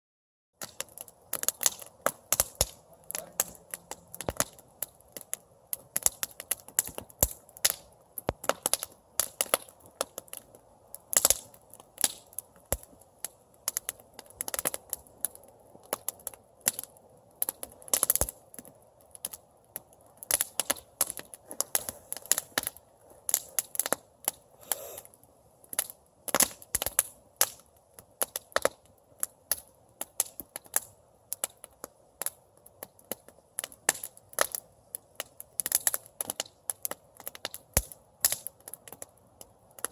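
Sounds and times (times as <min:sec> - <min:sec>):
campfire crackling: 0:00.6 - 0:39.9
faint steady hiss: 0:00.6 - 0:39.9.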